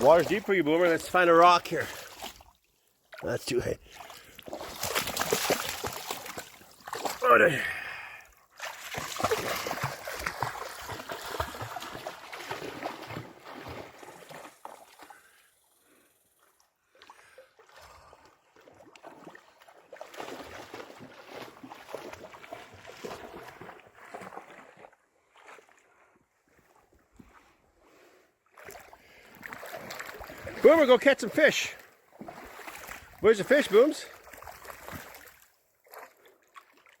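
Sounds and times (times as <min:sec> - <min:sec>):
water splashing from wading: 0:00.0 - 0:15.4, 0:16.9 - 0:26.1, 0:28.5 - 0:37.0.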